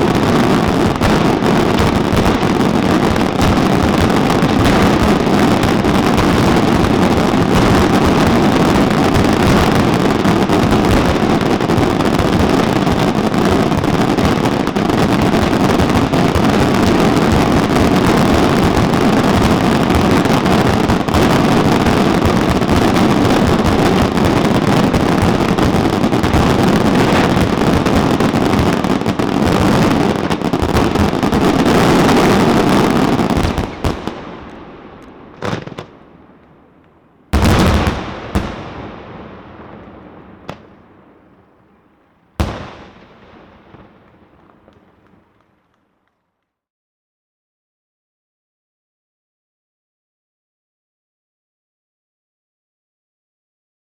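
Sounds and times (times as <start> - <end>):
fireworks barrage bangs: 0.0 - 45.5.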